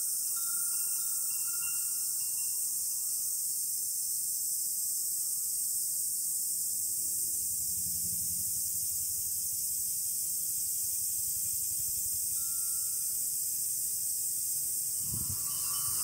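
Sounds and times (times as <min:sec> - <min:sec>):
cicadas shrilling: 0:00.0 - 0:16.0.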